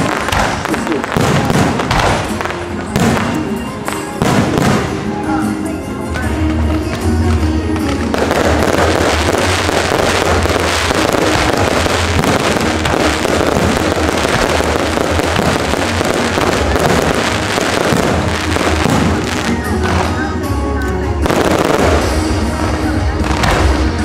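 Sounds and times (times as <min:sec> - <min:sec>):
fireworks bursting and crackling: 0:00.0 - 0:24.0
music with heavy bass: 0:00.0 - 0:24.0.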